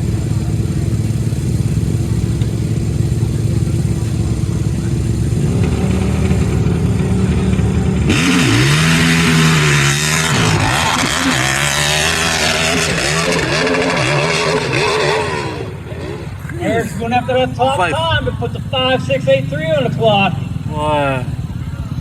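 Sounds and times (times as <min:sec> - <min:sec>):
quad engine revving: 0:00.0 - 0:22.0.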